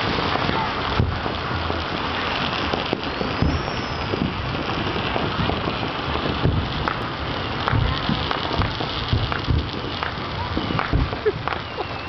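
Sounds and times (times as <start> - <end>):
firecrackers crackling: 0.0 - 12.0
low firework booms: 0.0 - 12.0.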